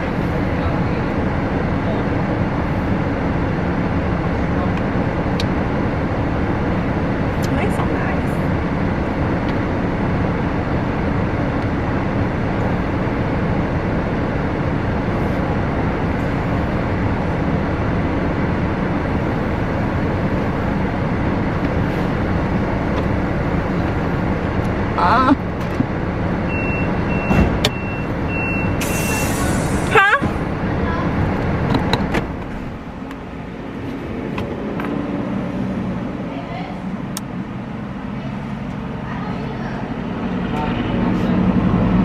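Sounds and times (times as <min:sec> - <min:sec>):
rushing vehicle noise: 0:00.0 - 0:42.0.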